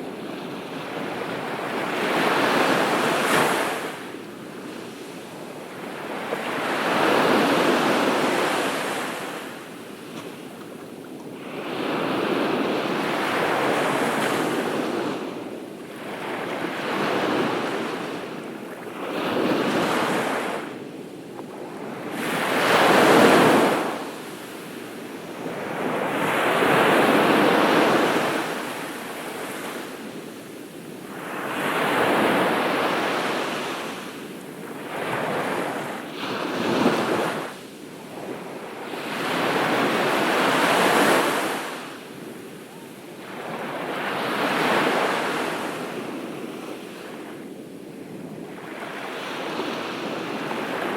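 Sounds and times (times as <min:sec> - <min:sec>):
ocean waves breaking on beach: 0:00.0 - 0:50.9.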